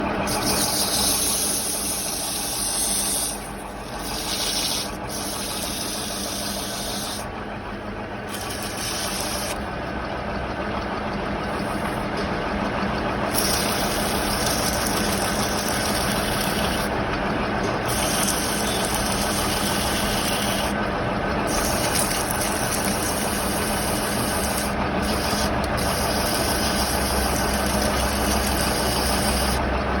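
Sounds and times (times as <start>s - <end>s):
lathe running: 0.0s - 30.0s.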